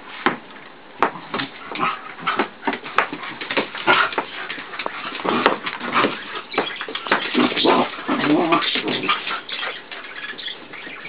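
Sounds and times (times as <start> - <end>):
dogs play-fighting vocal noises: 1.1 - 10.7.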